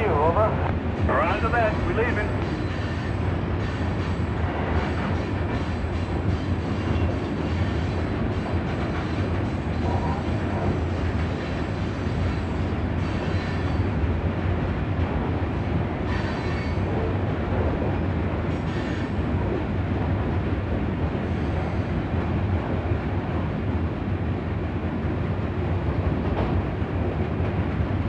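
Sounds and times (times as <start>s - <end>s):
freight train rumbling: 0.0s - 28.0s.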